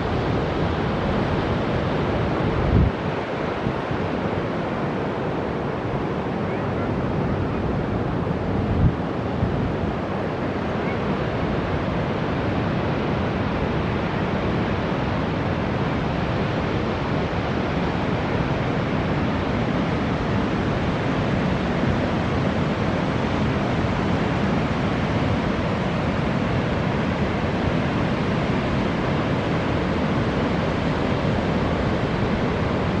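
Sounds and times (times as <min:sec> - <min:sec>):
surf breaking on a beach: 0:00.0 - 0:33.0.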